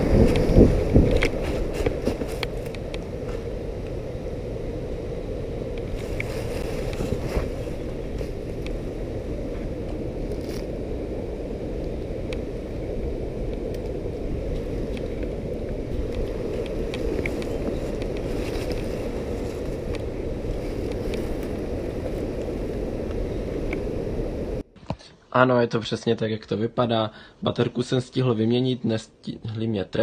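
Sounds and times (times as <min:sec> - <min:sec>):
wind buffeting microphone: 0:00.0 - 0:24.6.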